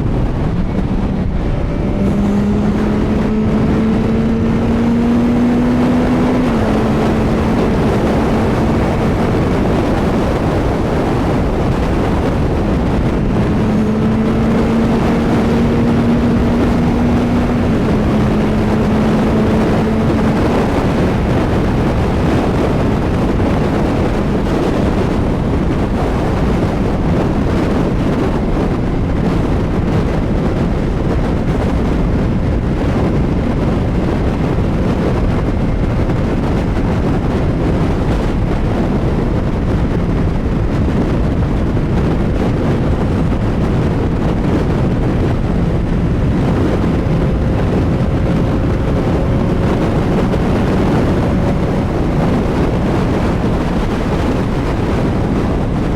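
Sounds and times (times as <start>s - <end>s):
motorcycle engine at speed: 0.0s - 55.9s
wind rush on microphone: 0.0s - 55.9s.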